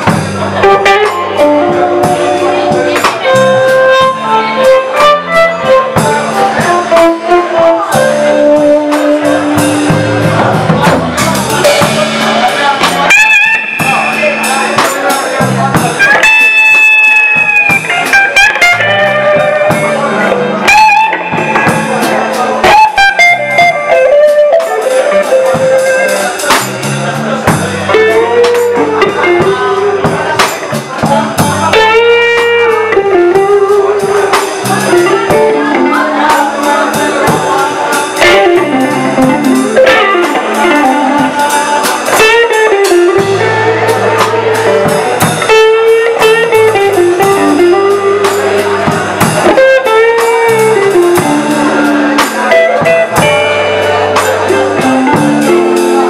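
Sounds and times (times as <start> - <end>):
bass guitar: 0.0 - 56.0
drums: 0.0 - 56.0
electric guitar solo: 0.0 - 56.0.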